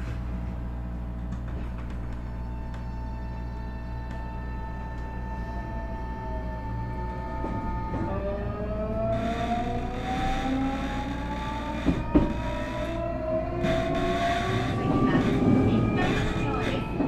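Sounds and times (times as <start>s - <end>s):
train running rumble: 0.0s - 17.0s
electric train motor whine: 0.8s - 17.0s.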